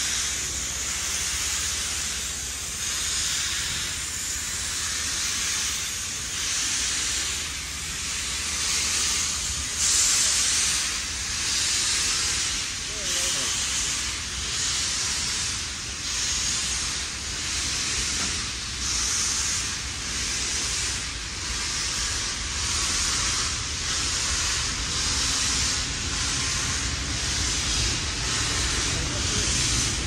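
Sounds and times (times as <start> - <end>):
steam locomotive chuffing: 0.0 - 30.0.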